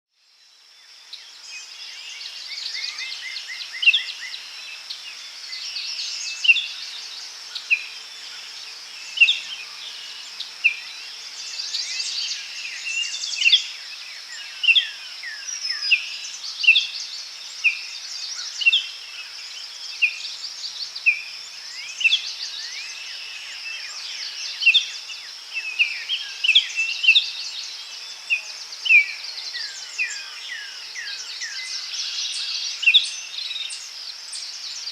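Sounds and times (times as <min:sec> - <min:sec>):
insect drone: 0:00.2 - 0:34.9.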